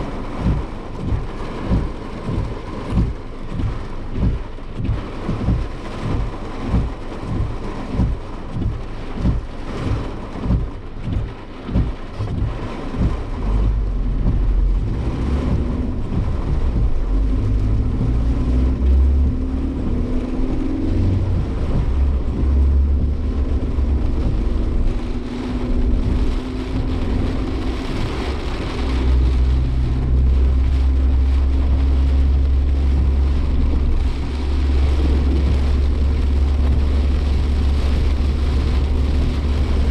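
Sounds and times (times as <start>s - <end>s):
car engine accelerating: 0.0s - 39.9s
low thumps: 0.0s - 39.9s
road noise drone: 0.0s - 39.9s.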